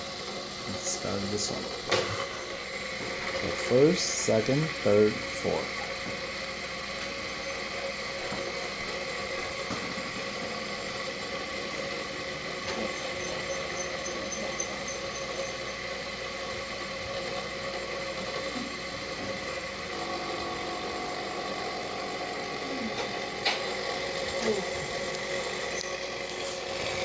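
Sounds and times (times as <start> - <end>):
fidget spinners whirring: 0.0 - 27.0.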